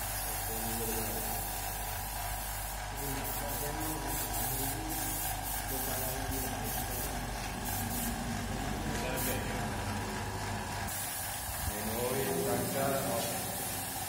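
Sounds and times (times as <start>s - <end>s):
paint spray spurts: 0.0s - 8.3s, 10.9s - 14.0s
compressed air hissing: 0.0s - 9.6s, 10.9s - 14.0s.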